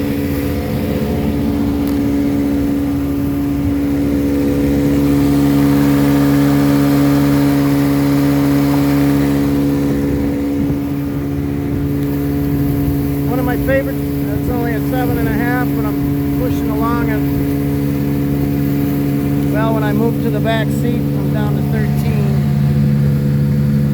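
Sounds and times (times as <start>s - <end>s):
outboard motor running: 0.0s - 23.9s.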